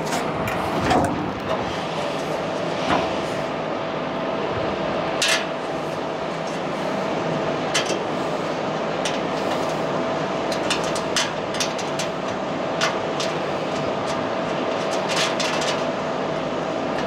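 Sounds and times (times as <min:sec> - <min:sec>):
steady rushing hum: 0:00.0 - 0:17.0.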